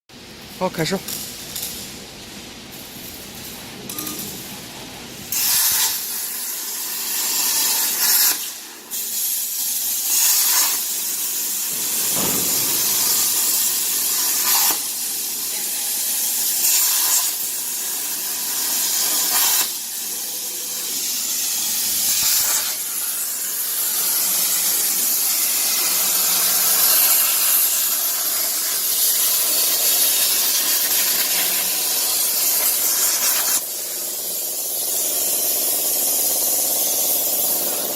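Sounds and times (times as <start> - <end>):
plasma cutter hissing: 2.6 - 37.9.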